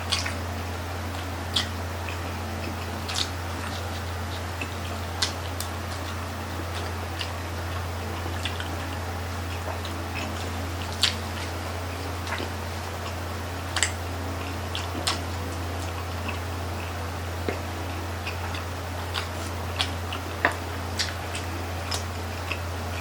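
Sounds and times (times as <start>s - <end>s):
mouth clicks and smacks chewing: 0.0s - 23.0s
steady low hum: 0.0s - 23.0s.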